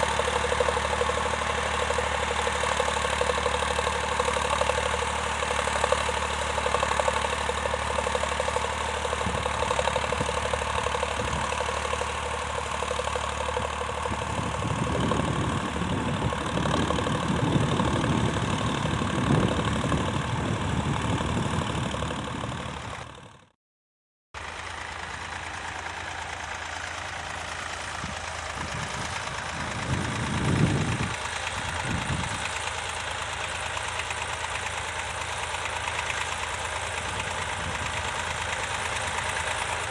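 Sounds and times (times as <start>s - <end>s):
tractor engine running: 0.0s - 23.6s, 24.4s - 39.9s.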